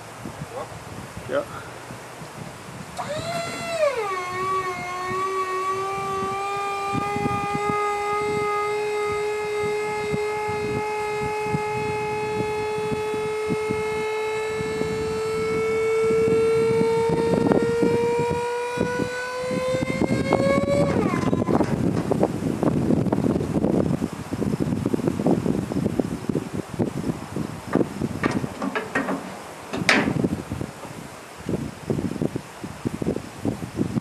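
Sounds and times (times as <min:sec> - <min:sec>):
hydraulic power unit whining: 0:02.8 - 0:23.7, 0:25.1 - 0:31.8.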